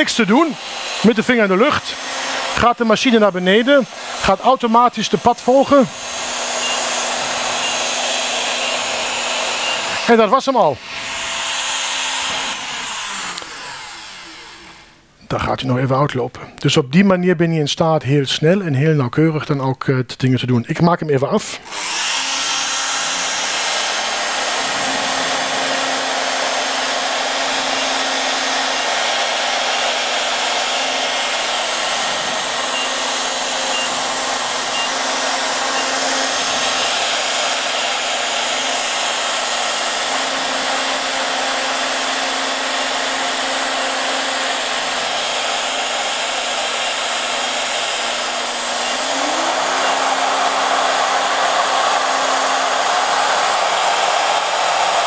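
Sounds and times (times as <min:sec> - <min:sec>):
dust extractor: 0:00.0 - 0:15.1, 0:21.5 - 0:55.0
router spindle whirring: 0:00.0 - 0:15.2, 0:21.5 - 0:55.0.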